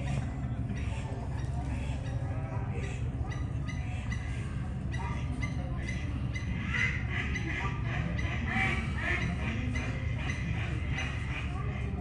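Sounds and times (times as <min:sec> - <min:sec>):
faint background voices: 0:00.0 - 0:12.0.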